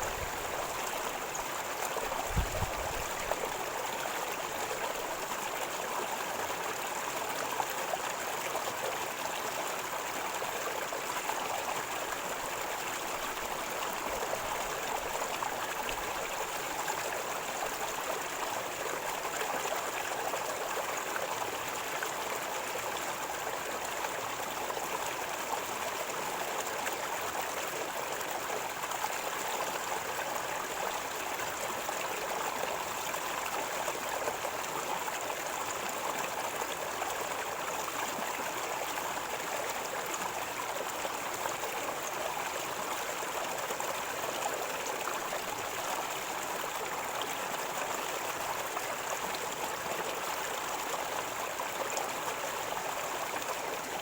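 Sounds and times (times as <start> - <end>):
river water flowing and gurgling: 0.0 - 54.0.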